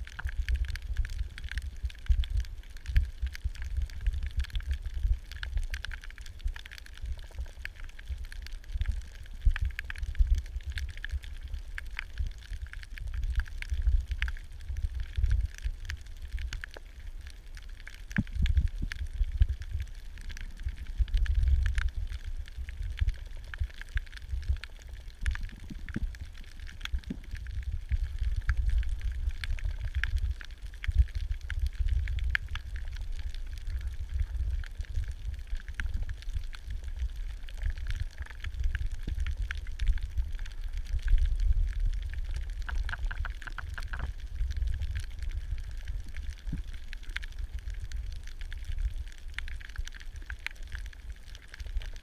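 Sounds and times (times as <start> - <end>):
sharp clicks and crackles: 0.0 - 52.0
underwater rumble of moving water: 0.0 - 52.0.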